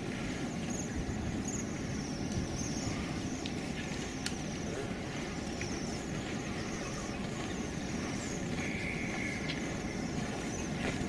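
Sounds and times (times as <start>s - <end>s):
low outdoor rumble: 0.0s - 11.0s
faint bird chirps: 0.6s - 11.0s.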